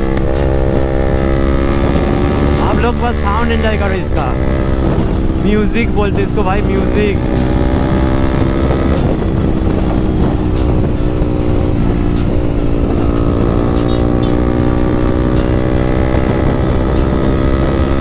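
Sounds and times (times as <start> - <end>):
motorcycle engine with loud exhaust: 0.0 - 18.0.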